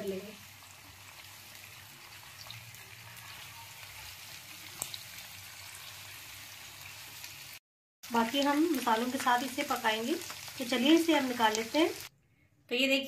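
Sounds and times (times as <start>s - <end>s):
food deep-frying in oil: 0.0s - 12.1s.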